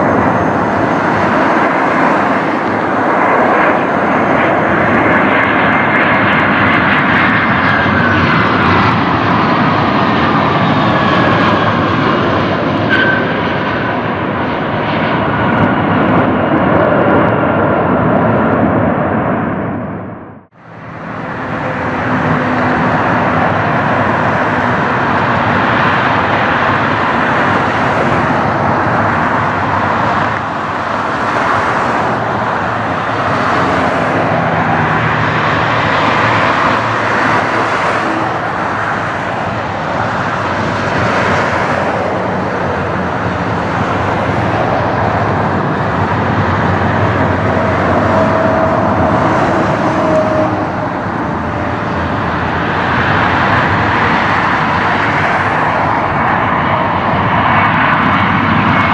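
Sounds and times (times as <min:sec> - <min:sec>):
jet engines rushing: 0:00.0 - 0:58.9.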